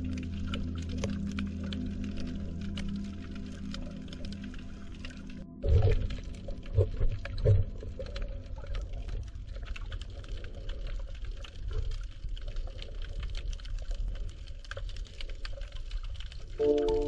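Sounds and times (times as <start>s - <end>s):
low rumble of moving water: 0.0s - 17.0s
underwater crackle of clicks: 0.0s - 17.0s.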